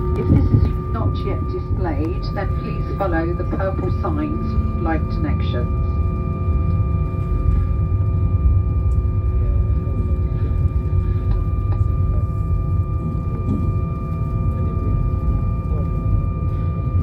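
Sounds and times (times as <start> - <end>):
airplane cabin low rumble: 0.0 - 17.0
jet engines idle whine: 0.0 - 17.0.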